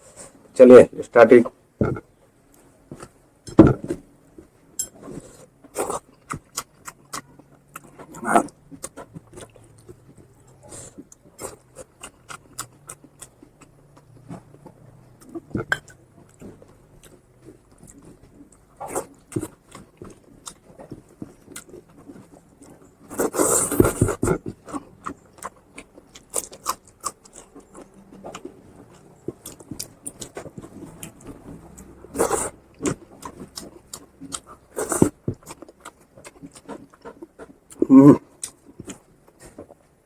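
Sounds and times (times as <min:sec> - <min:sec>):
person chewing food: 0:01.8 - 0:40.0.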